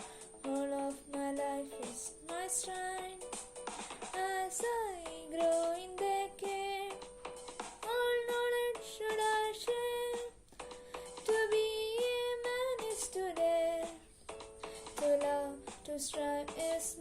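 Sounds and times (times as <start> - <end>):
young person singing: 0.0 - 7.1, 7.8 - 17.0.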